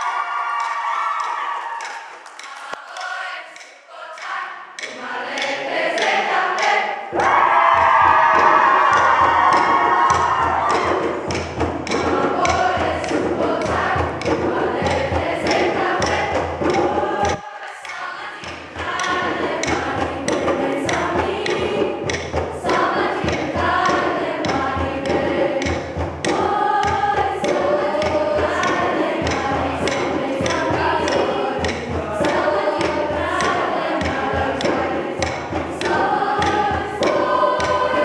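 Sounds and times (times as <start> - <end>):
mixed choir singing: 0.0 - 38.0
rhythmic thumps: 0.0 - 38.0.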